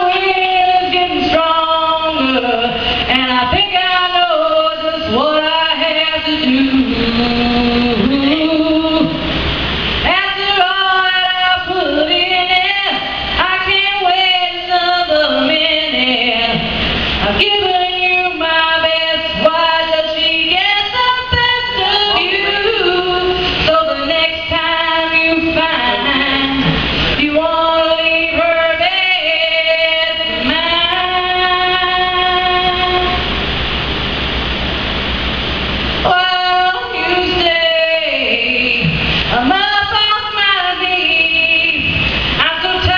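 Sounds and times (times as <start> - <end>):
woman singing unaccompanied: 0.0 - 9.4, 10.0 - 33.3, 36.0 - 42.9.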